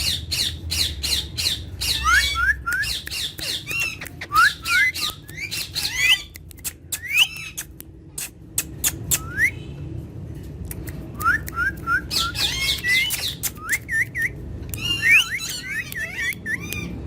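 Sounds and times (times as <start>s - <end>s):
parrot chirping and whistling: 0.0s - 7.7s, 8.8s - 9.6s, 11.2s - 17.0s.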